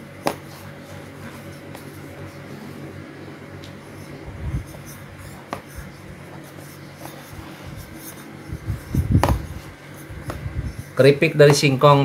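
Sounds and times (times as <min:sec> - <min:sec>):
soft rubbing and scraping of dough: 0:00.4 - 0:12.0.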